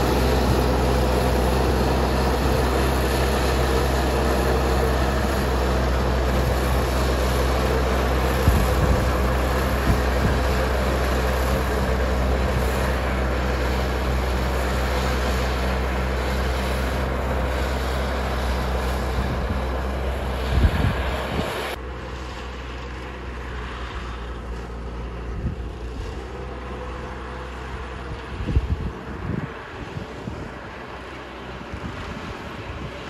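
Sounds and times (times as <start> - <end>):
harvesting machinery roaring: 0.0 - 33.0
low engine hum: 0.0 - 33.0.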